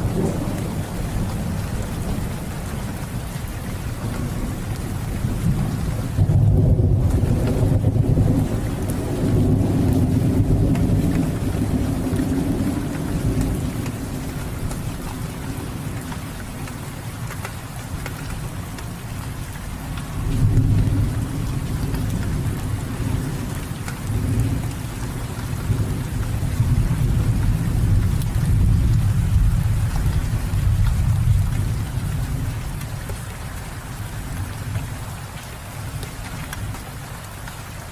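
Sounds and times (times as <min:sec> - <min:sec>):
thunder rumbling: 0:00.0 - 0:16.6, 0:19.5 - 0:35.1
steady rain falling: 0:00.0 - 0:37.9.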